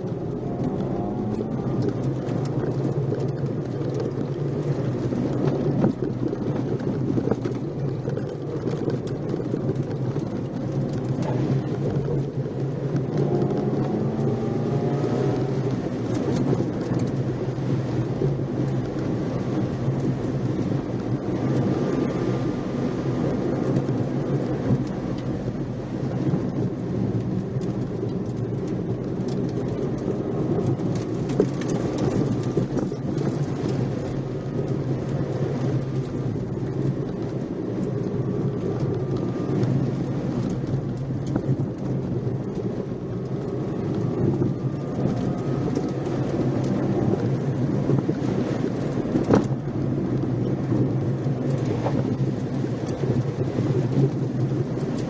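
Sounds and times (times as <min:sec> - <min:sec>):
car engine running: 0:00.0 - 0:55.0
tyre and road noise: 0:00.0 - 0:55.0.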